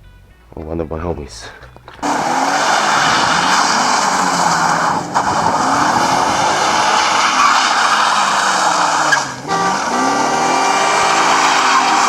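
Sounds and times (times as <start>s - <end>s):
car engine revving: 1.6s - 12.0s.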